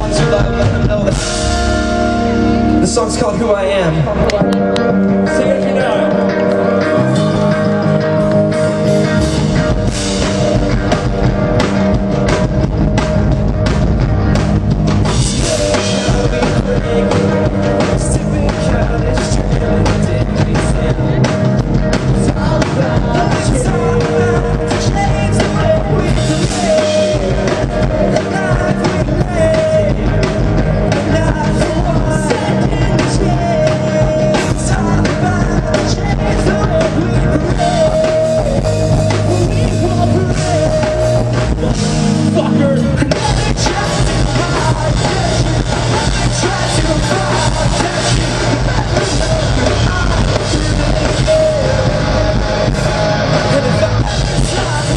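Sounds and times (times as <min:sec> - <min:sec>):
lead vocal singing: 0:00.0 - 0:54.9
live rock band playing: 0:00.0 - 0:54.9.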